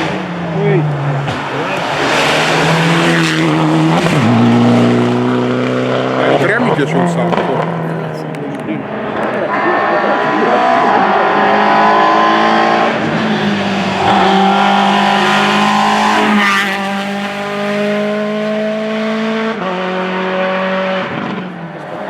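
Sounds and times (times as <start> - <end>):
rally car accelerating through gears: 0.0 - 22.0
harsh engine rasp: 1.2 - 22.0.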